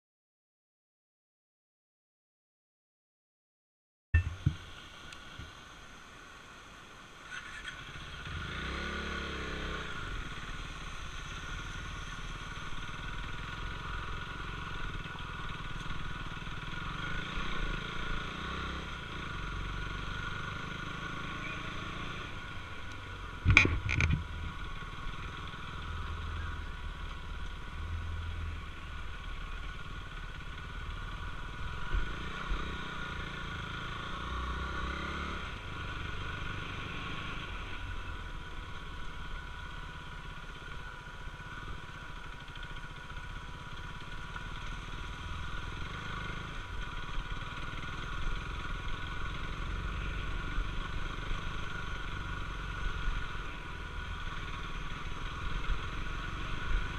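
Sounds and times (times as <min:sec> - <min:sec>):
motorcycle engine running: 0:04.2 - 0:05.6, 0:07.3 - 0:56.9.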